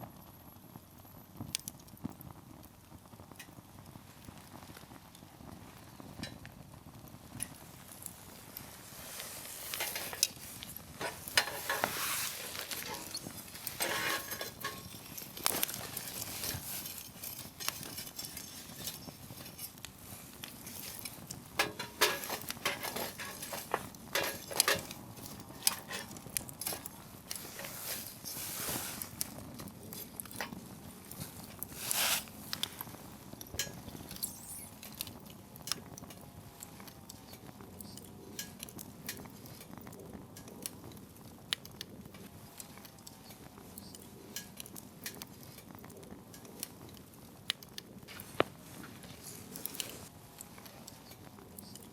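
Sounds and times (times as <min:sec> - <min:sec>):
fire hissing: 0:00.0 - 0:51.9
wood fire crackling and popping: 0:00.0 - 0:51.9.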